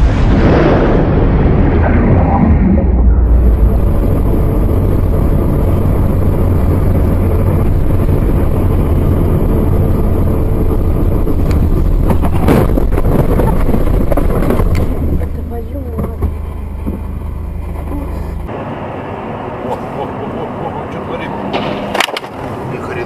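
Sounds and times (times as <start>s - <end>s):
vehicle road and wind rumble: 0.0s - 23.0s.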